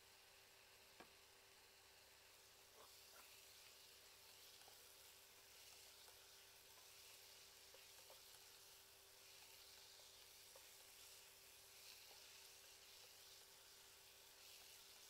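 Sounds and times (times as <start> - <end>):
meat sizzling in saucepan: 0.0 - 15.0.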